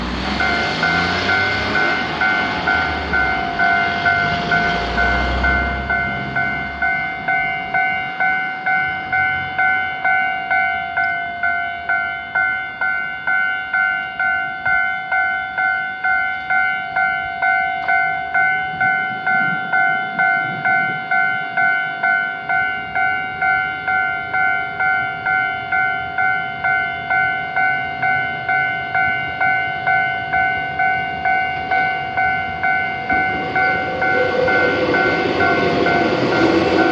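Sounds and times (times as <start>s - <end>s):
level crossing warning bell: 0.0s - 36.9s
passing train: 0.0s - 36.9s.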